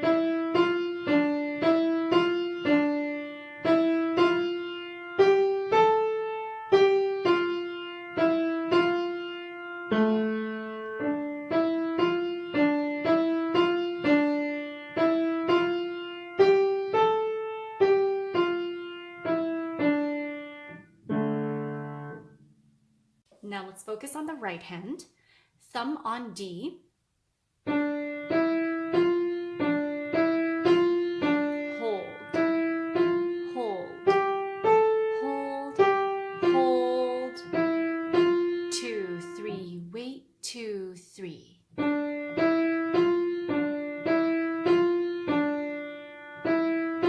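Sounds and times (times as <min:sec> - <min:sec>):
simple piano melody: 0:00.0 - 0:23.2, 0:27.6 - 0:39.8, 0:41.6 - 0:47.0.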